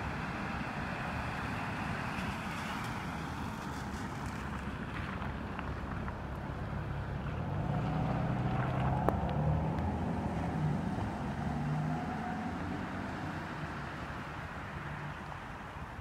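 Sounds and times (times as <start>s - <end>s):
vehicle engine hum: 0.0s - 16.0s.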